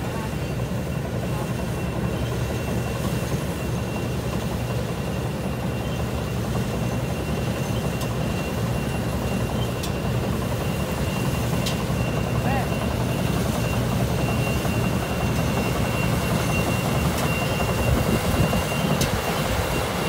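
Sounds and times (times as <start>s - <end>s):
combine harvester engine drone: 0.0s - 20.0s.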